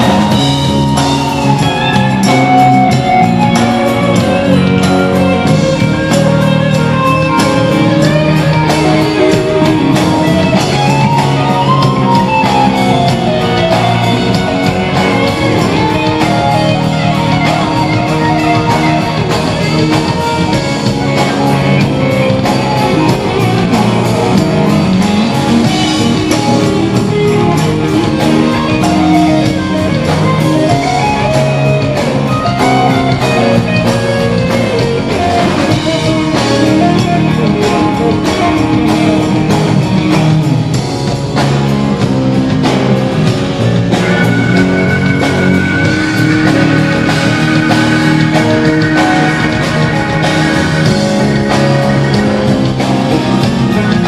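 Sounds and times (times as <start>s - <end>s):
electric guitar lead: 0.0s - 54.0s
rock band playing live: 0.0s - 54.0s.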